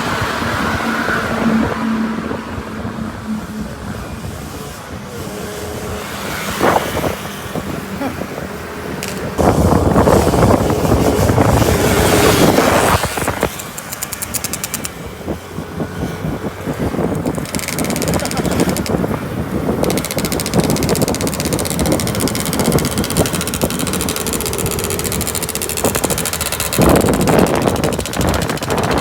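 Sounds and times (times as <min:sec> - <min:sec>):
two-stroke engine revving: 0:05.0 - 0:29.0.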